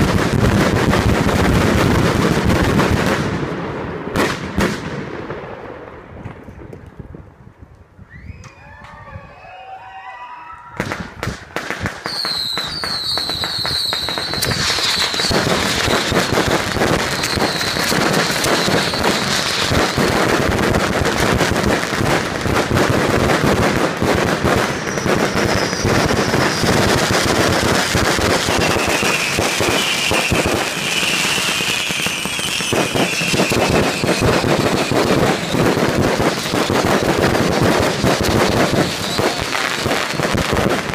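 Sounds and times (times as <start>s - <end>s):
fireworks whistling: 0.0s - 3.5s, 10.7s - 40.9s
fireworks bangs and crackles: 0.0s - 8.0s, 10.7s - 40.9s.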